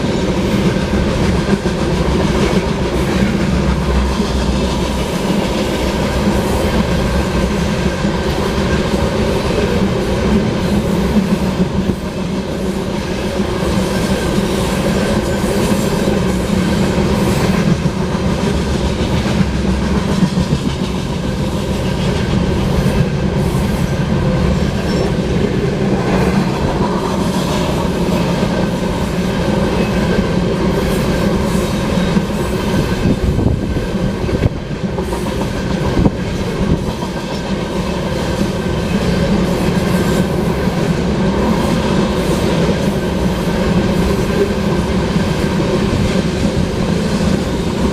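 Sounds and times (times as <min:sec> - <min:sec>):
train wheels rumbling on rail: 0:00.0 - 0:47.9
wheels clacking over rail joints: 0:00.0 - 0:47.9.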